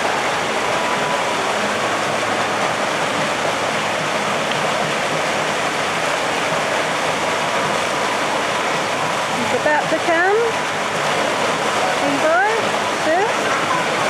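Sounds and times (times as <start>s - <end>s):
water pouring and splashing: 0.0s - 14.0s.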